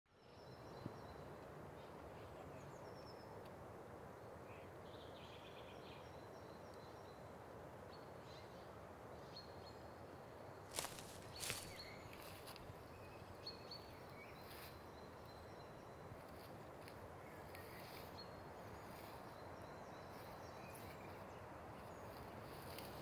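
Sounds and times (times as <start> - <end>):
songbirds chirping and trilling: 0.1 - 23.0
faint steady hiss: 0.2 - 23.0.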